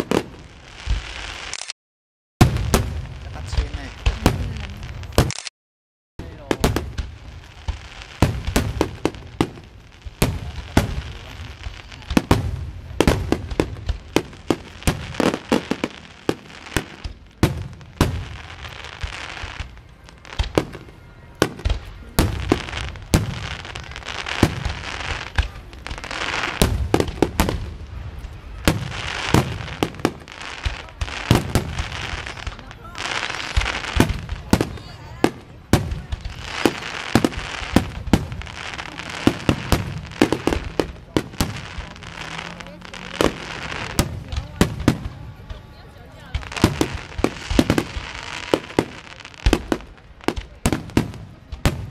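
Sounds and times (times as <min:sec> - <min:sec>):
fireworks bangs and crackling: 0:00.0 - 0:01.8, 0:02.4 - 0:05.5, 0:06.2 - 0:51.9.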